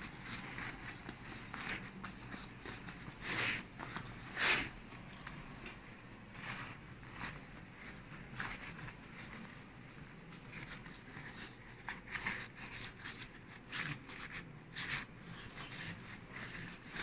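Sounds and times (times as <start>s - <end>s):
nylon straps rustling and scraping: 0.0s - 17.0s.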